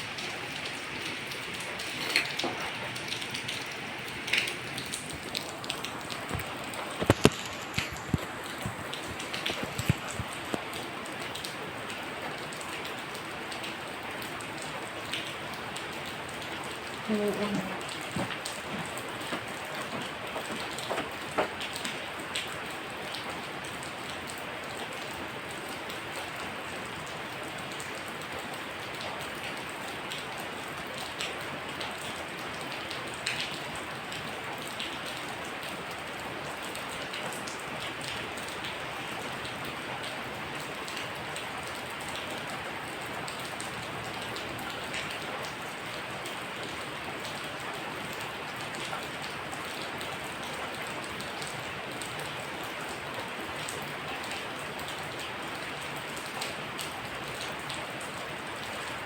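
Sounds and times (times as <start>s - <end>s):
louder raindrops landing close: 0.0s - 47.7s
steady rain falling: 0.0s - 59.0s.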